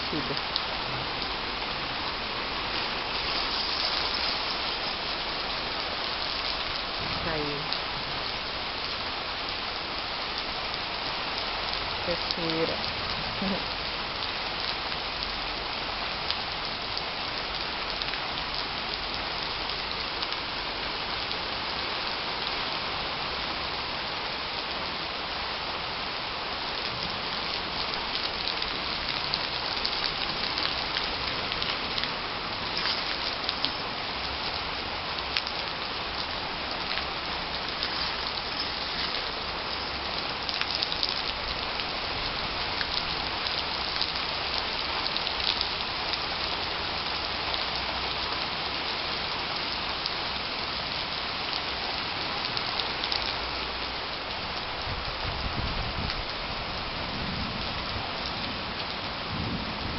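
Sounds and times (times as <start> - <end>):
heavy rain on foliage: 0.0 - 59.9.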